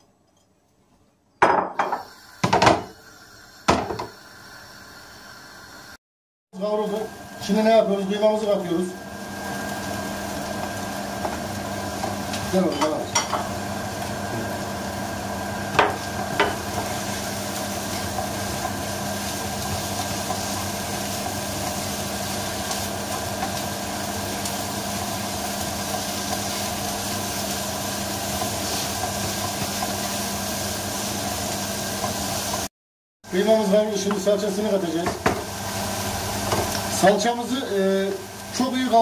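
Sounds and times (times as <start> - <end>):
meat and onions sizzling in a pan: 1.8 - 6.0, 6.6 - 32.7, 33.3 - 39.0.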